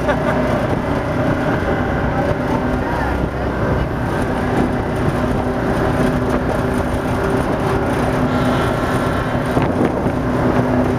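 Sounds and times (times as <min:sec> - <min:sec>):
boat engine droning: 0:00.0 - 0:10.9
wind on microphone: 0:00.0 - 0:10.9.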